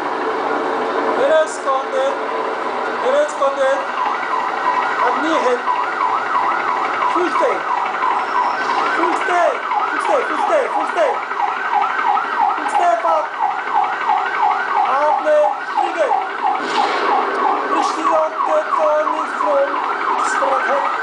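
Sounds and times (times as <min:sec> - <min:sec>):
siren yelping: 0:01.3 - 0:21.0
falling siren tones: 0:03.4 - 0:21.0.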